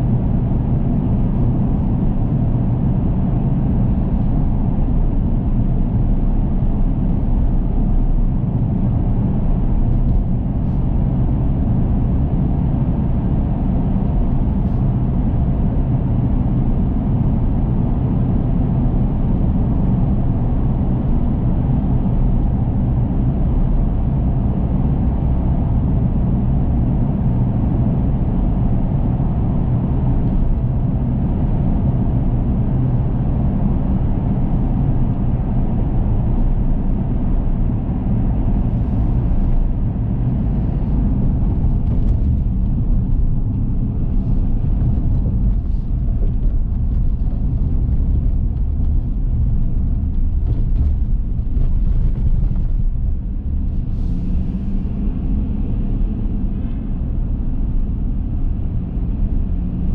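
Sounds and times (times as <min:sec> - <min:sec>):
car driving through tunnel: 0:00.0 - 0:59.9.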